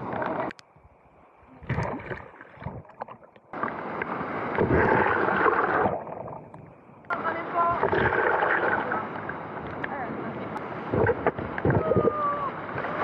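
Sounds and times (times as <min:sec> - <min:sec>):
sea waves breaking and splashing: 0:01.4 - 0:13.0.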